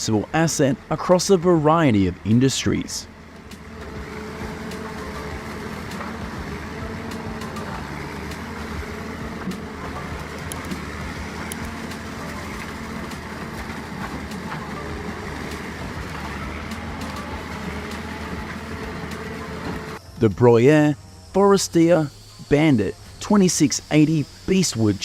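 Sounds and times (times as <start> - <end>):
wood shredder engine drone: 0.0 - 25.0.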